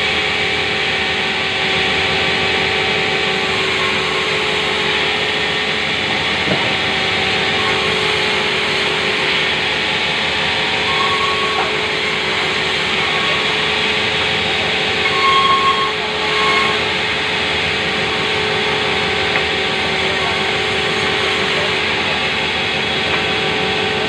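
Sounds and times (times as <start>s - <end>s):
saw bench droning: 0.0s - 24.0s
saw blade whining: 0.0s - 24.0s.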